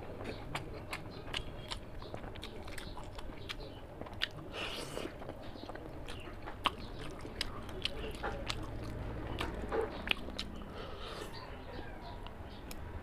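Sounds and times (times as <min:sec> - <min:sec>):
food crunching: 0:00.0 - 0:11.4
person chewing with wet smacking: 0:00.0 - 0:11.4.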